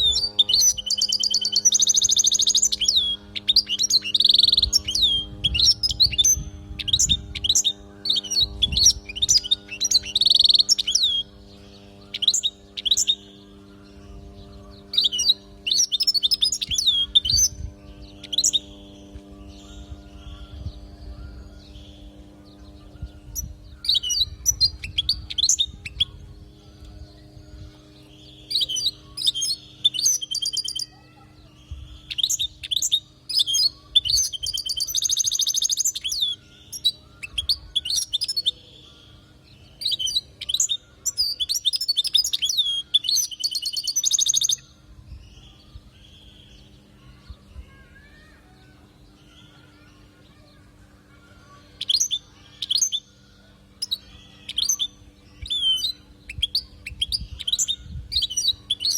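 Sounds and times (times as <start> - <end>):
goldfinch twittering song: 0.0 - 50.4, 51.7 - 58.9
faint steady hum: 0.0 - 58.9.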